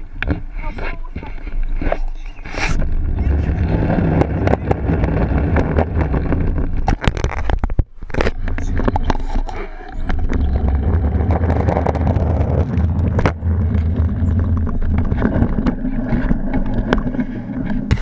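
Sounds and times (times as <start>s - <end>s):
camera handling rumble and knocks: 0.0s - 18.0s
wind buffeting microphone: 0.0s - 18.0s.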